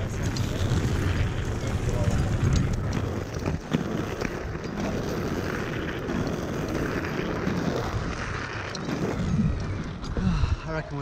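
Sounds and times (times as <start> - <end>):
skate wheels rolling on pavement: 0.0 - 11.0.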